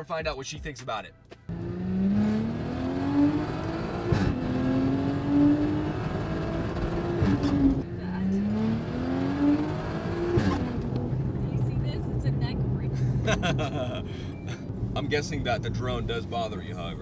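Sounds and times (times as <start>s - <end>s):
car engine accelerating through gears: 1.5s - 17.0s.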